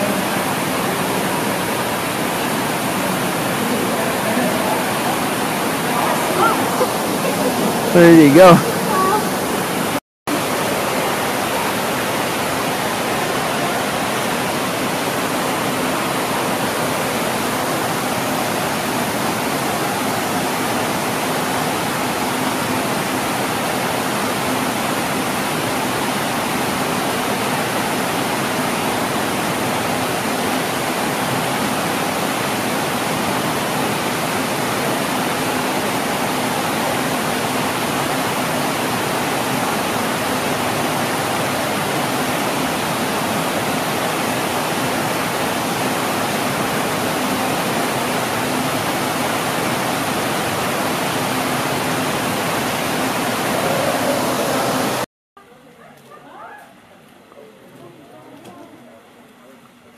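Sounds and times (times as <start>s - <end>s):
running water rushing: 0.0s - 55.1s.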